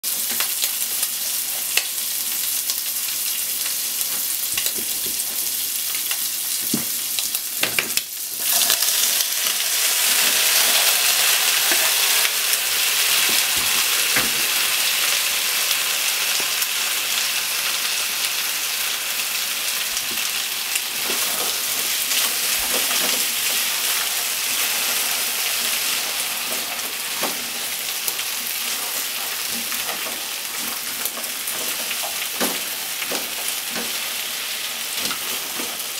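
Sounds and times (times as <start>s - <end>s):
bacon sizzling in frying pan: 0.0s - 35.9s
potato sticks stir-frying: 0.0s - 35.9s.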